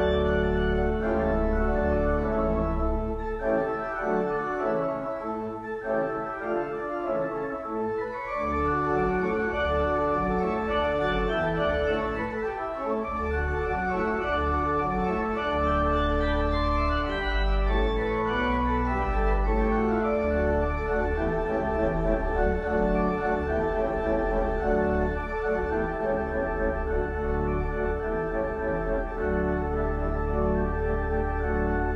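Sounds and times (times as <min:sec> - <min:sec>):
organ chords: 0:00.0 - 0:31.9.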